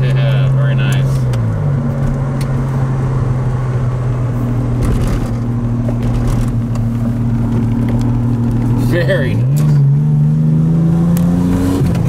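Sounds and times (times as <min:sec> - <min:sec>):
car engine pulling steadily: 0:00.0 - 0:12.0
road noise: 0:00.0 - 0:12.0.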